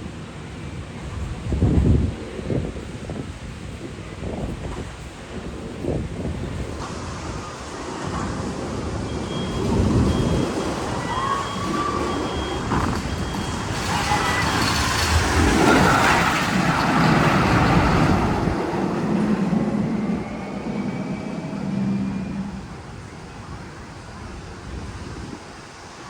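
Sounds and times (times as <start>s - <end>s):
heavy rumbling vehicle-like noise: 1.4s - 25.4s.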